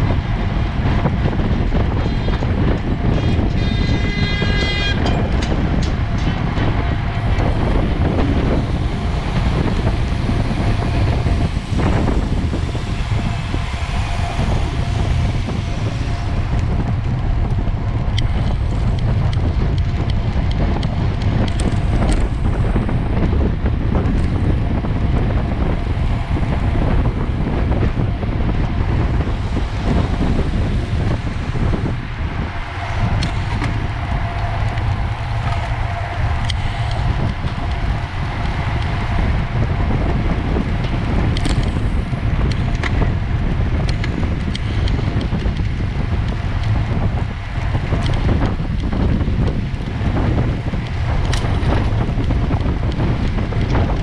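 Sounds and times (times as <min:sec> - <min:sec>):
heavy wind buffeting microphone: 0:00.0 - 0:54.0
low rumble: 0:00.0 - 0:54.0.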